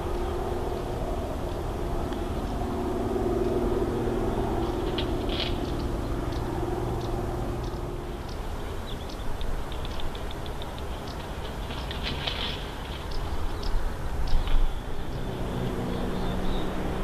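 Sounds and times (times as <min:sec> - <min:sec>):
birds chirping: 0:00.0 - 0:17.0
distant engine drone: 0:00.0 - 0:17.0.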